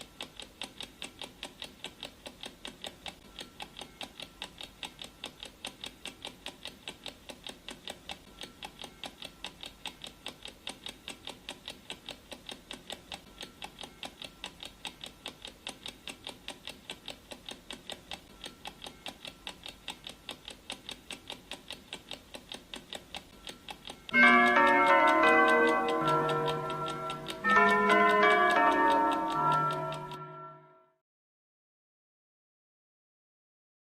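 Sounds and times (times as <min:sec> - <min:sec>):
clock ticking: 0:00.0 - 0:30.8.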